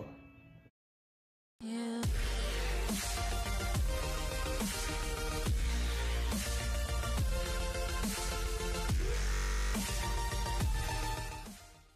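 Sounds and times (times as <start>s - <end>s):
electronic music with heavy bass: 2.0s - 11.9s.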